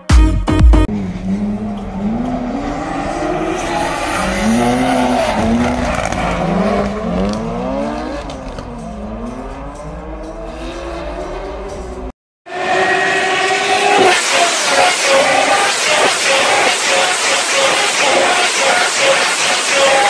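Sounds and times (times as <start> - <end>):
car engine revving: 0.8 - 20.0.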